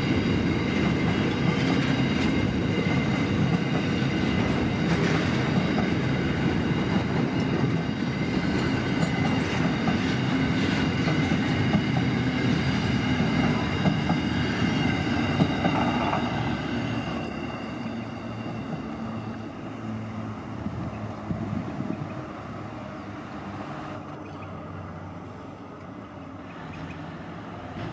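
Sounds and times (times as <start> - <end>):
freight train wheels rumbling on track: 0.0 - 27.9.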